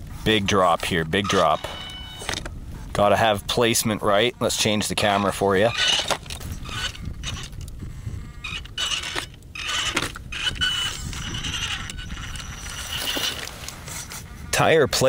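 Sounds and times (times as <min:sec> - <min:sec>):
electric motor and gears whining: 0:00.0 - 0:03.0, 0:04.5 - 0:15.0.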